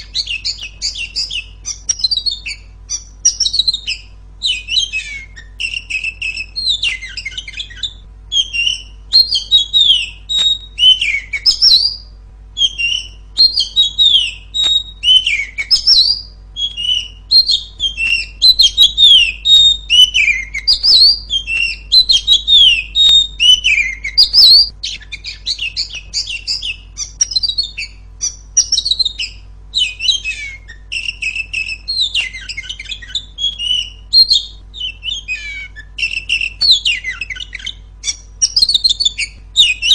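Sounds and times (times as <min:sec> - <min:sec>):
bird singing chirps and whistles: 0:00.0 - 0:39.9
faint steady hum: 0:00.0 - 0:39.9.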